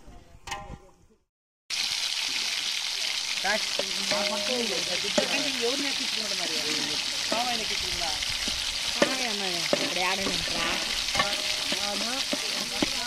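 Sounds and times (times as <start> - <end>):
food sizzling in hot oil: 1.7 - 13.0.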